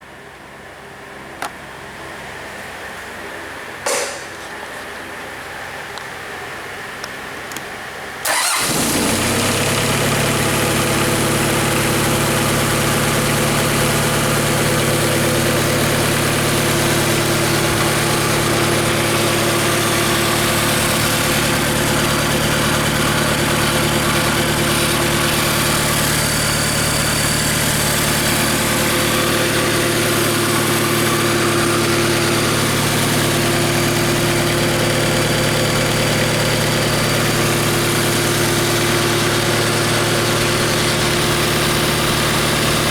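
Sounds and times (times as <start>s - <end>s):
diesel engine starting and idling: 8.2s - 42.9s.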